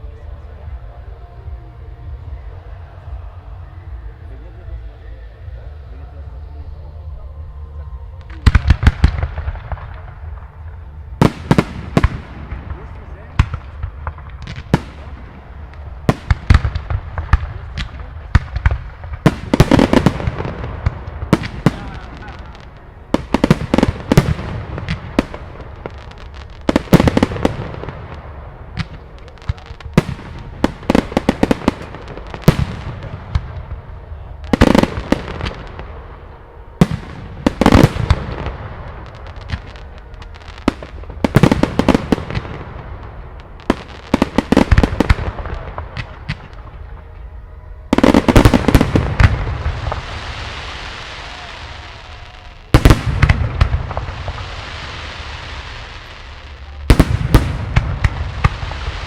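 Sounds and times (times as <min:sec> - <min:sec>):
lingering hiss: 0:00.0 - 0:59.0.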